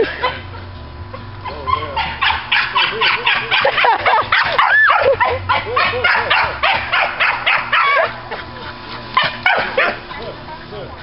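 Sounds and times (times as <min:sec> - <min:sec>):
small dogs yipping: 0:01.4 - 0:10.3.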